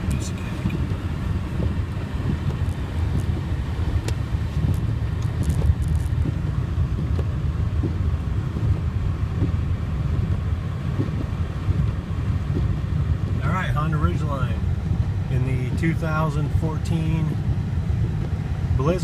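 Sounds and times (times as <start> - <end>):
pickup engine rumble from inside cab: 0.0 - 19.0
tyres on snowy road: 0.0 - 19.0.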